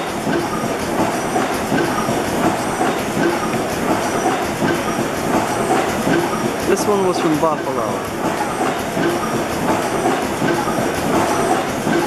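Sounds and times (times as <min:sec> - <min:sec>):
gas engine rhythmic clatter: 0:00.0 - 0:12.0.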